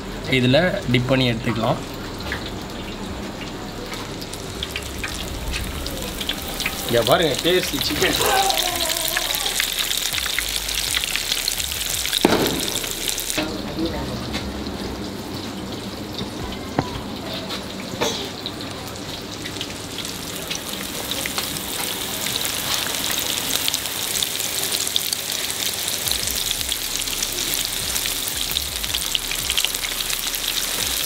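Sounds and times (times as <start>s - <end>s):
chicken deep-frying in oil: 0.0s - 31.0s.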